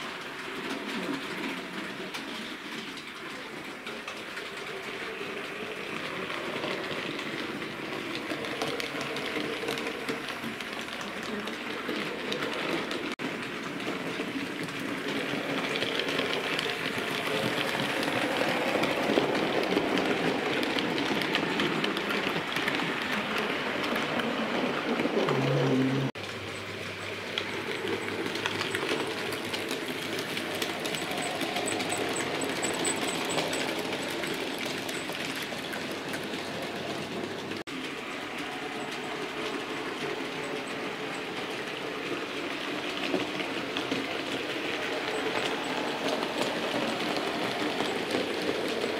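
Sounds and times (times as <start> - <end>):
wheels clicking over rails: 0.0 - 48.9.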